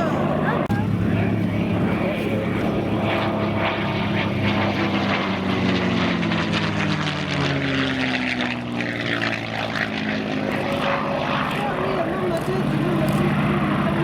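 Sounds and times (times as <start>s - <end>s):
propeller plane engine in flight: 0.0s - 14.0s.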